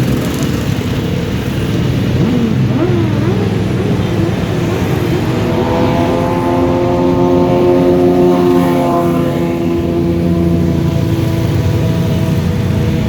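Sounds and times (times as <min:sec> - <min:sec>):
motorcycle engines revving: 0:00.0 - 0:13.0
steady high-pitched engine note: 0:01.7 - 0:13.0.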